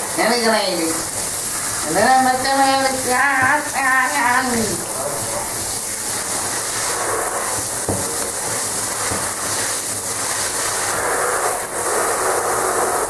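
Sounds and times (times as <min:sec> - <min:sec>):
shower spray hissing: 0:00.0 - 0:13.0.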